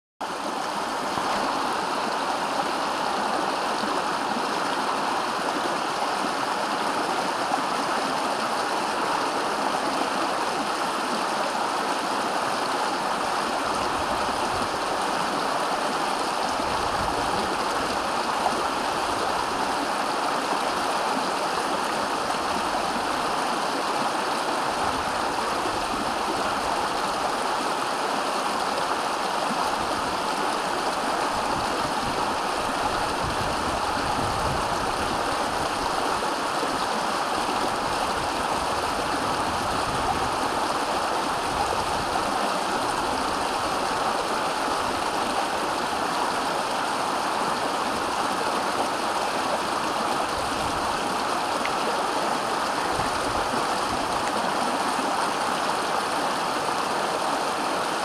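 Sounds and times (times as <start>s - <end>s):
stream rushing over rocks: 0.2s - 58.0s.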